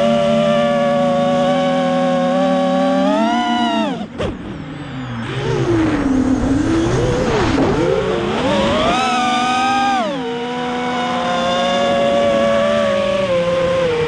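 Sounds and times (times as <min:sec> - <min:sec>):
quadcopter propellers whining: 0:00.0 - 0:14.0.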